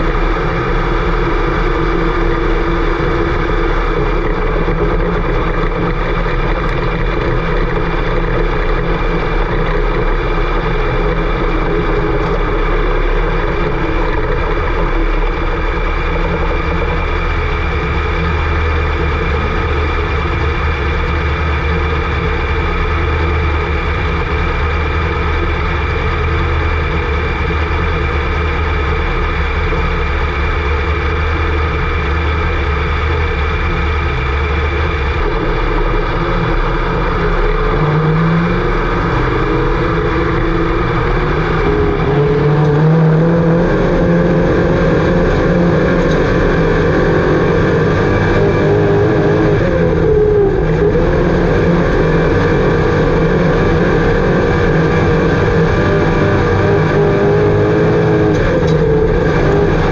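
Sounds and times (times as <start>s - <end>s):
engine revving: 0.0s - 59.9s
engines running steadily: 0.0s - 59.9s.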